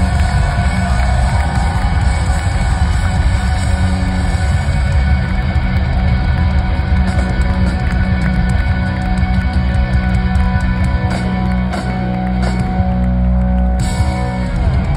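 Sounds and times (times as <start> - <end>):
loud live concert music: 0.0 - 14.9.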